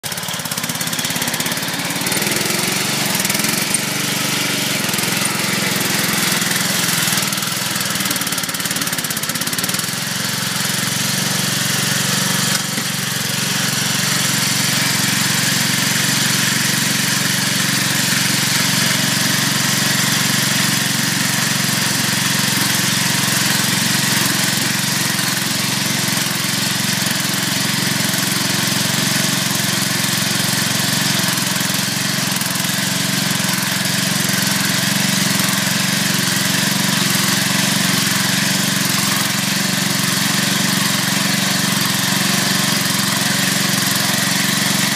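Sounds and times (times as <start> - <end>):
small mower engine running: 0.0 - 44.9.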